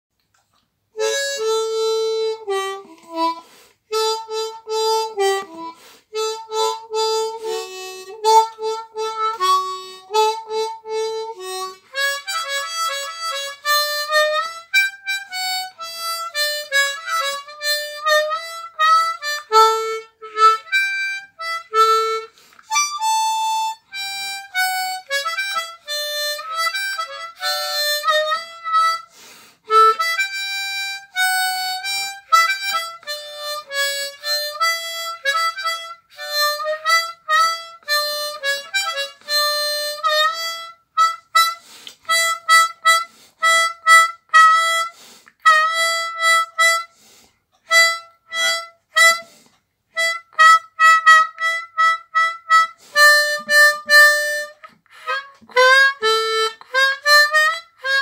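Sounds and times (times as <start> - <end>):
harmonica playing blues: 1.0 - 58.0.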